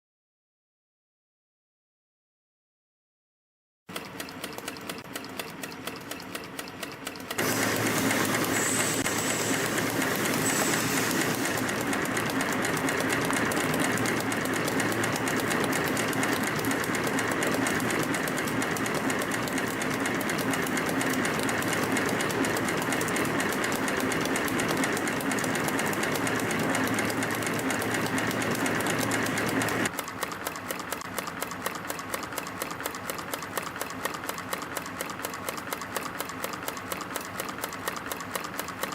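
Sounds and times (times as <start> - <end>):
stamping machine clatter: 4.0 - 38.9.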